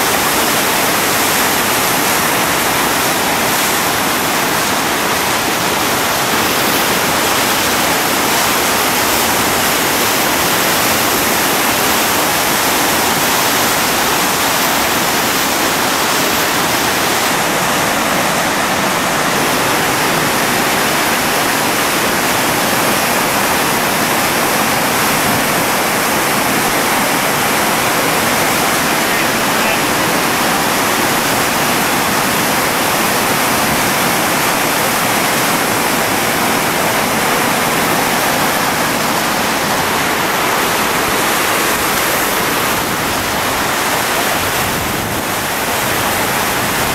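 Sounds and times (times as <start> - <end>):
whitewater river rushing: 0.0 - 46.9.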